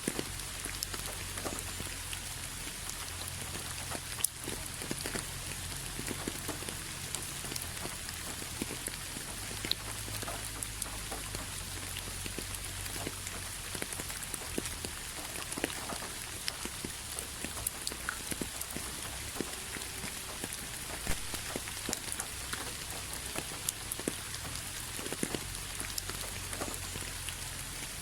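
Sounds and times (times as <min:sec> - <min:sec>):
rain drops ticking: 0:00.0 - 0:28.0
rain hiss: 0:00.0 - 0:28.0.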